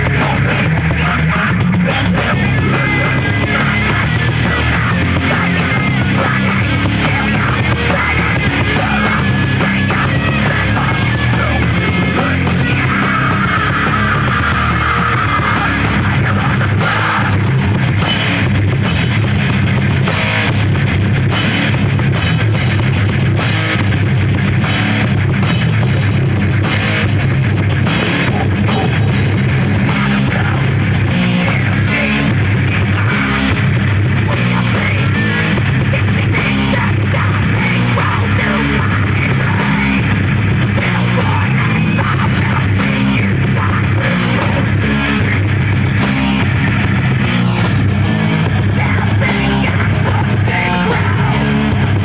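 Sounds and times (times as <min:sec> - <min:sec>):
heavy metal band playing: 0:00.0 - 0:52.0.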